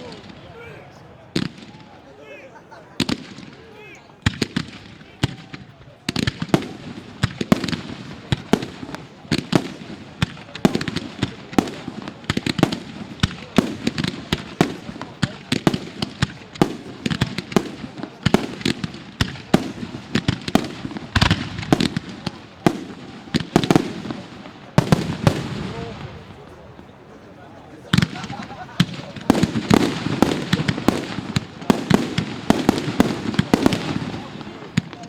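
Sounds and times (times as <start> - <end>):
fireworks bangs: 0.0 - 2.3, 2.9 - 35.0.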